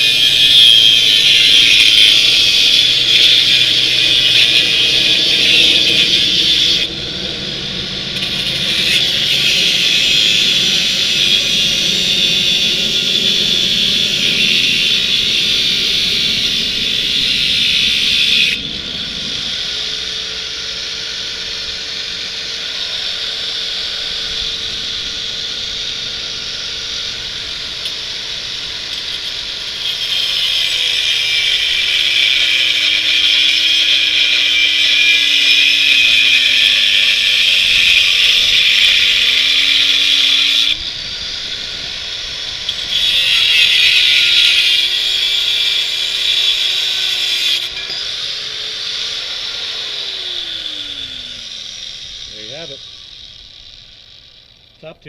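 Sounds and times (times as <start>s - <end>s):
power tool cutting steel tube: 0.0s - 55.0s.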